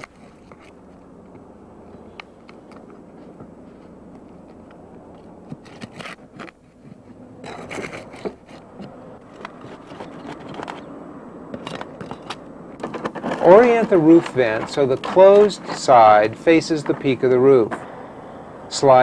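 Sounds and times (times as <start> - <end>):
pry bar scraping under shingles: 0.0 - 19.0.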